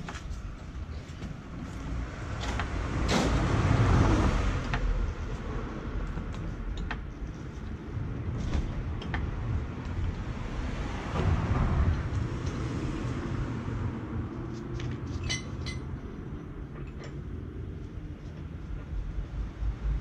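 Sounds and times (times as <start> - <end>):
outdoor rumble: 0.0 - 20.0.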